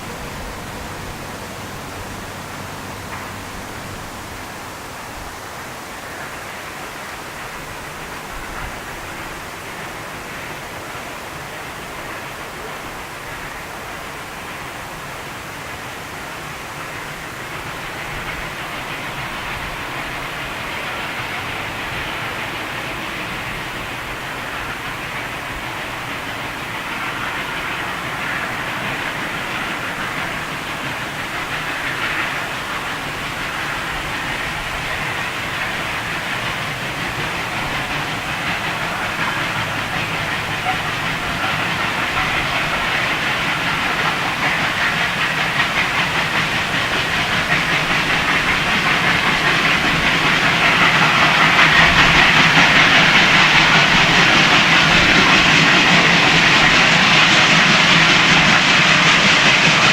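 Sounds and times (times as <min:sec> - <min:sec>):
steam hissing: 0:00.0 - 0:59.9
steam train running: 0:00.0 - 0:59.9
wheels clicking over rail joints: 0:00.0 - 0:59.9.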